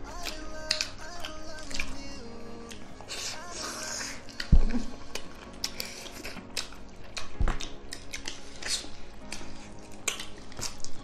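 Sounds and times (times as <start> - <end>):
faint background music: 0.0 - 11.0
wet chewing and lip smacking: 0.1 - 2.0, 2.7 - 11.0.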